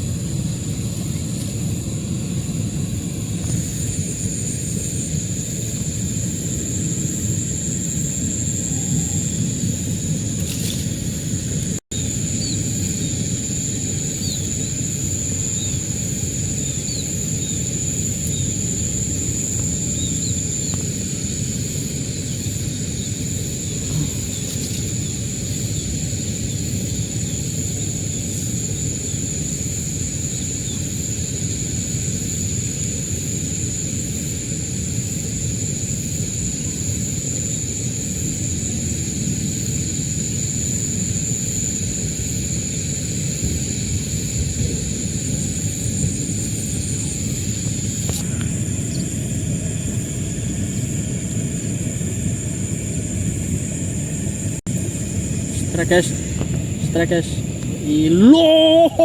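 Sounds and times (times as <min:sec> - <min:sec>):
high-pitched insect drone: 0:00.0 - 0:51.7, 0:54.8 - 0:59.0.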